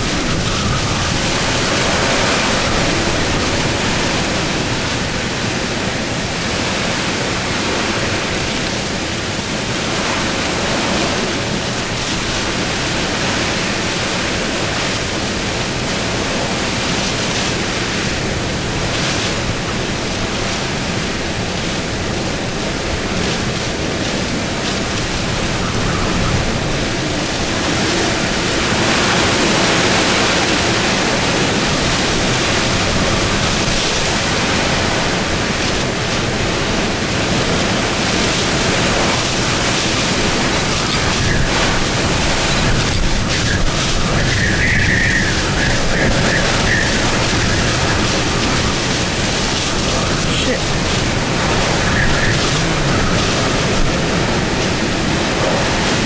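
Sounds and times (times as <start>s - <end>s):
hurricane wind blowing: 0.0s - 56.0s.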